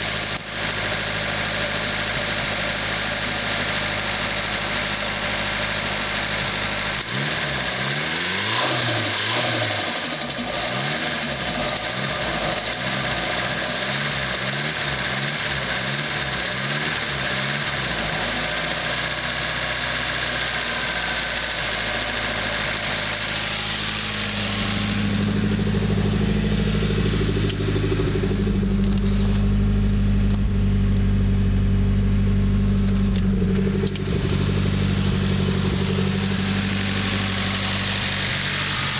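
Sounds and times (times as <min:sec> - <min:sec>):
car engine revving: 0:00.0 - 0:38.9
engine ticking: 0:00.0 - 0:38.9.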